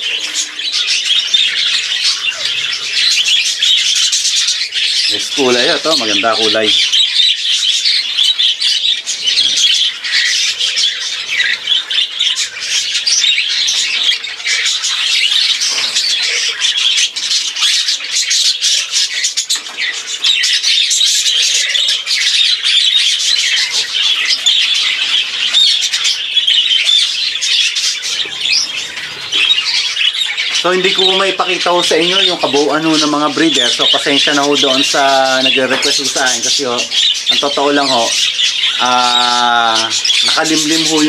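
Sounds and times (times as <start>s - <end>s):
budgerigars chattering: 0.0s - 41.0s.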